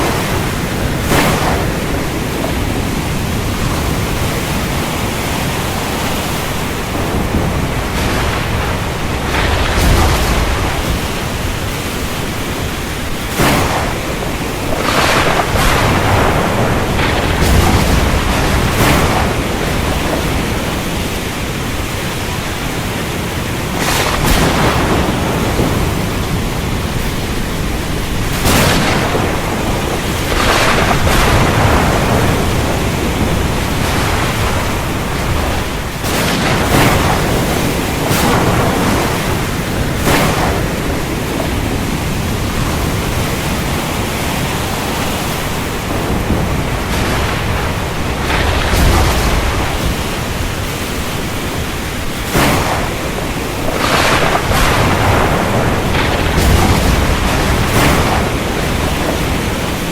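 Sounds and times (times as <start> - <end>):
heavy rain: 0.0 - 59.9
sharp thunder cracks: 0.0 - 59.9.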